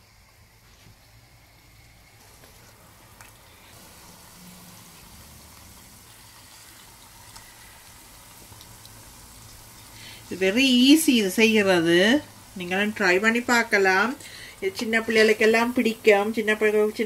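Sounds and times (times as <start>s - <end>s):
batter deep-frying in hot oil: 0.0s - 17.0s.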